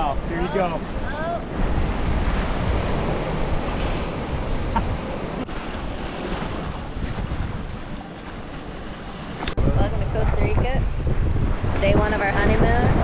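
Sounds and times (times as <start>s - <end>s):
surf splashing over rocks: 0.0s - 10.6s
wind buffeting microphone: 0.0s - 13.0s.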